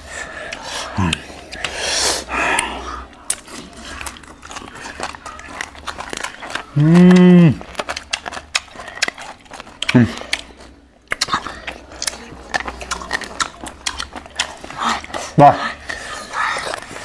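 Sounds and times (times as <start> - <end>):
chewing and lip-smacking: 0.1 - 17.0.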